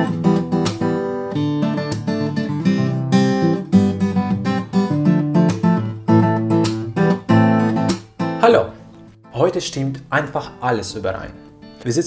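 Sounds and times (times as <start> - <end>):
acoustic guitar strumming and picking: 0.0 - 12.0.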